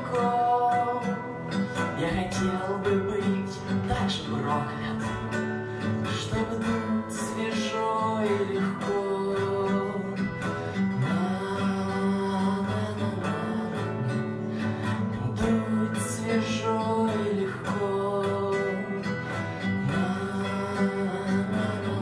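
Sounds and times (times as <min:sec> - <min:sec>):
man singing: 0:00.0 - 0:22.0
strummed acoustic guitar: 0:00.0 - 0:22.0.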